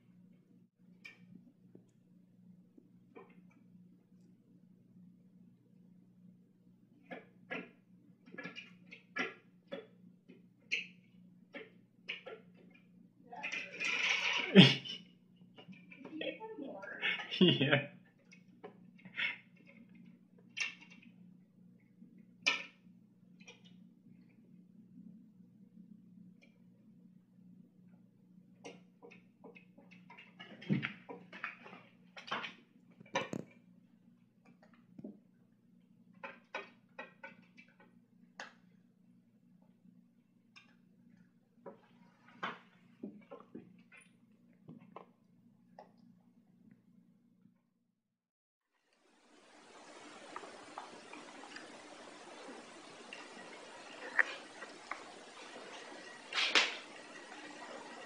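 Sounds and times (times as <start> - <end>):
low steady hum: 0.0 - 47.6, 49.0 - 58.0.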